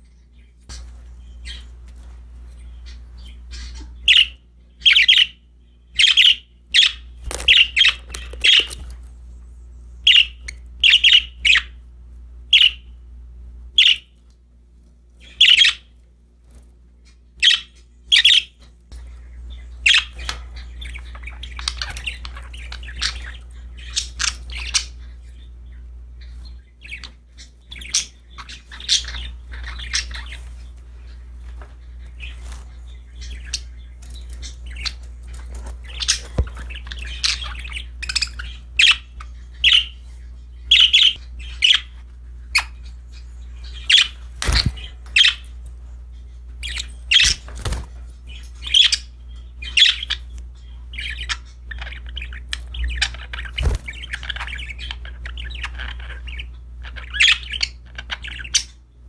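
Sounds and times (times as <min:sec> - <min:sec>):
budgerigars chirping: 0:00.0 - 0:09.0, 0:10.0 - 0:11.8, 0:12.5 - 0:13.0, 0:13.8 - 0:14.2, 0:15.2 - 0:16.0, 0:17.0 - 0:59.0
steady low hum: 0:00.0 - 0:59.0.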